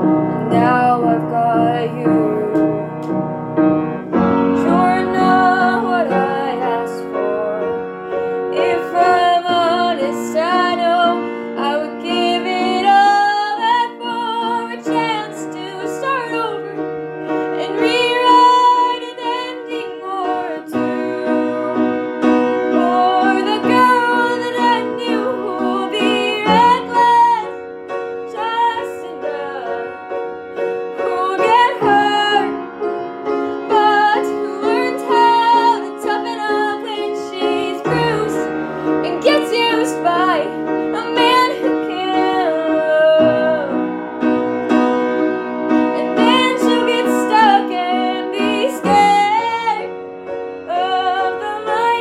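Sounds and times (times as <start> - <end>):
piano chords: 0.0 - 52.0
girl singing slow song: 0.2 - 3.0, 4.5 - 7.8, 8.5 - 27.6, 28.3 - 30.0, 31.0 - 32.6, 33.6 - 43.9, 46.0 - 49.9, 50.7 - 52.0.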